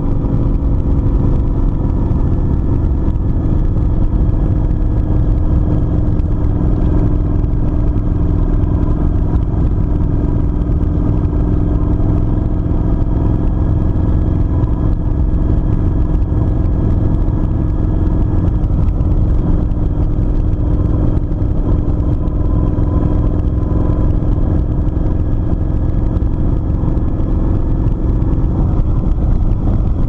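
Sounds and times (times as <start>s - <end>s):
motorcycle engine cruising: 0.0s - 30.0s
wind rumble on microphone: 0.0s - 30.0s.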